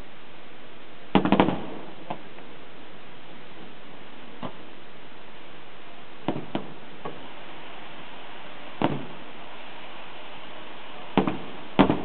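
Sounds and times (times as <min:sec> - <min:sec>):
steady hiss: 0:00.0 - 0:12.0
fireworks bursting with booms: 0:01.0 - 0:12.0.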